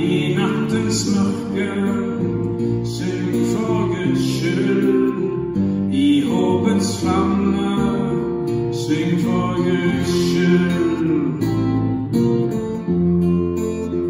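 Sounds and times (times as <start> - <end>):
man singing: 0.0 - 12.0
acoustic guitar strumming: 0.0 - 14.0
upright bass: 0.0 - 14.0.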